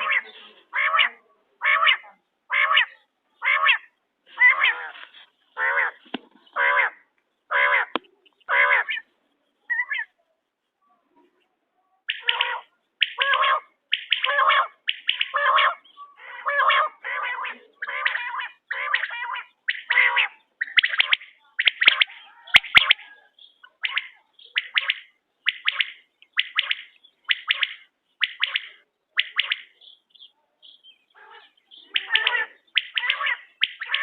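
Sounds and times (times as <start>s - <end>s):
quail calling: 0.0s - 9.1s, 9.7s - 10.1s, 12.1s - 34.0s.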